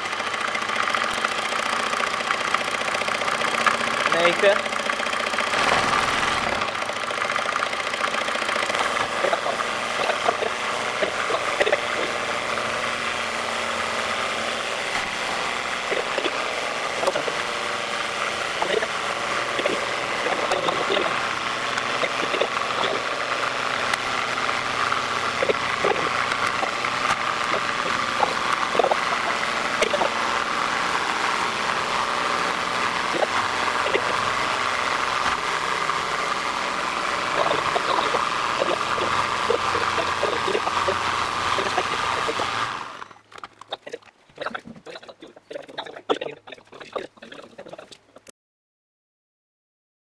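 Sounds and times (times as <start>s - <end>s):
engine high hum: 0.0s - 48.3s.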